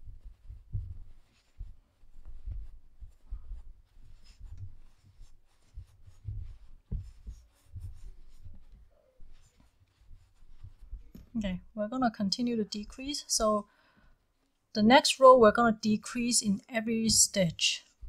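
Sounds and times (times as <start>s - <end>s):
soft rustling and rubbing: 0.0s - 18.0s.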